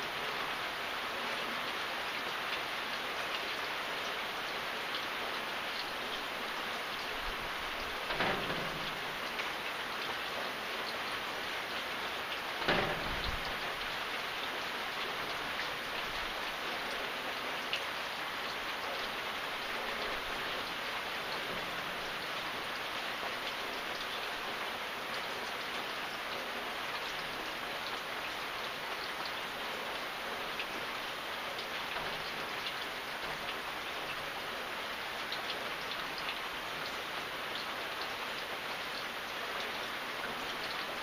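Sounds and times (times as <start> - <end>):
rain pattering on surfaces: 0.0 - 41.0.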